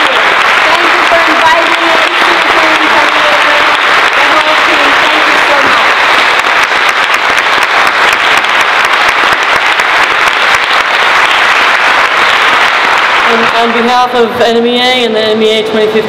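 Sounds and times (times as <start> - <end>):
audience applauding: 0.0 - 14.3.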